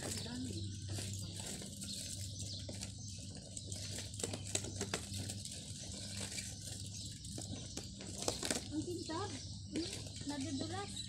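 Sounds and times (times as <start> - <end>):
plastic bags rustling: 0.0 - 10.9.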